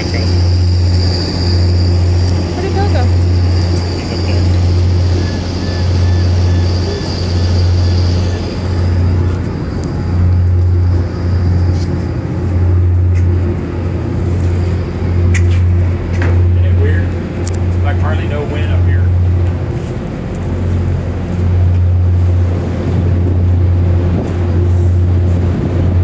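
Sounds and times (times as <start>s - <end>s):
diesel engines throbbing drone: 0.0s - 26.0s.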